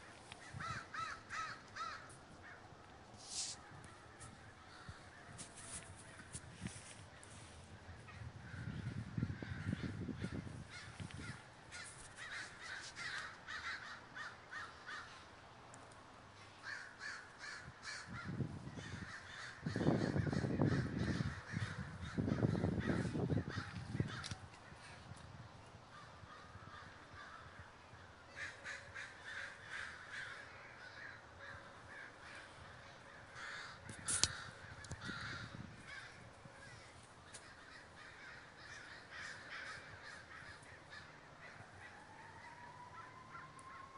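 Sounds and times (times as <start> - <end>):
crows cawing: 0.1 - 2.7, 3.7 - 6.3, 8.0 - 15.3, 16.4 - 25.0, 25.9 - 43.9.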